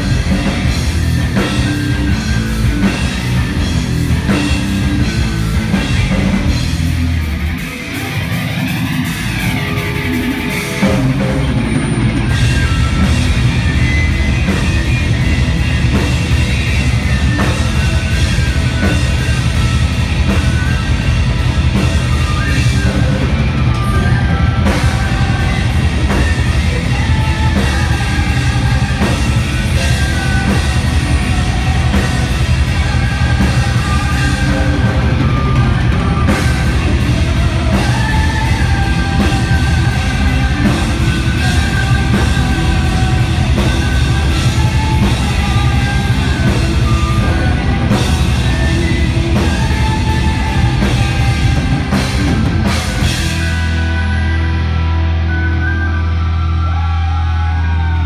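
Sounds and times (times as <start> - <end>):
metal band playing live: 0.0 - 58.0.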